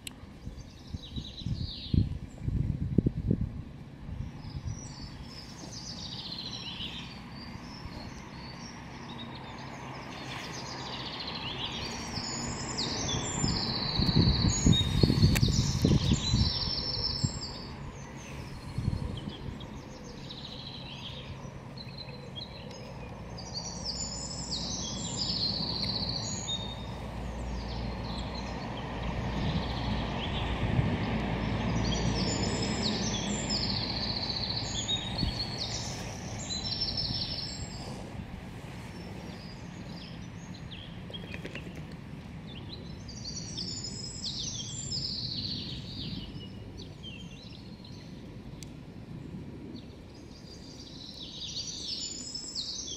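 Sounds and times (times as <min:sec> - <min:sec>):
songbirds singing: 0:00.0 - 0:52.9.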